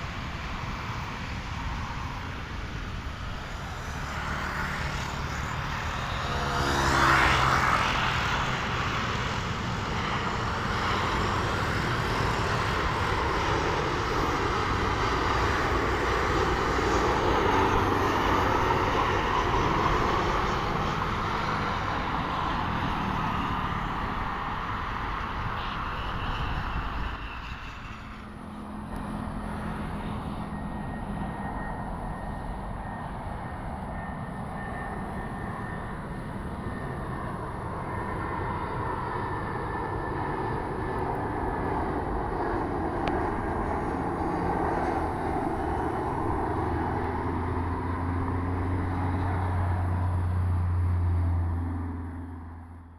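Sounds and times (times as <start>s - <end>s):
airliner engines roaring: 0.0s - 52.9s
high engine whine: 0.0s - 52.9s.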